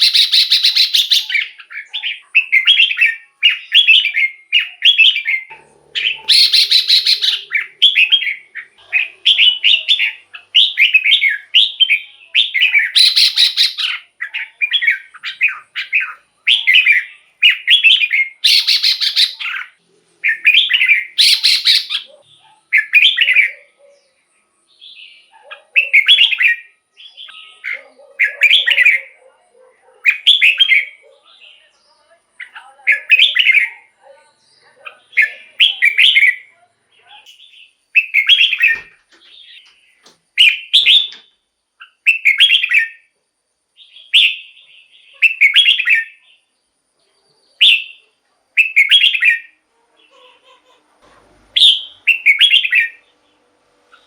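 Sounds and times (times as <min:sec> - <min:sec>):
bird warbling song: 0:00.0 - 0:29.4, 0:32.4 - 0:43.1, 0:43.8 - 0:46.5, 0:47.3 - 0:50.6, 0:51.4 - 0:54.0.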